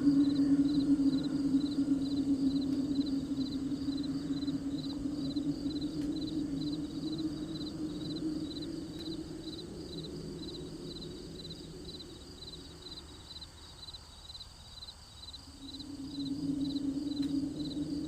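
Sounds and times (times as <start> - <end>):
low hum: 0.0 - 13.8, 15.5 - 18.0
crickets chirping: 0.0 - 18.0.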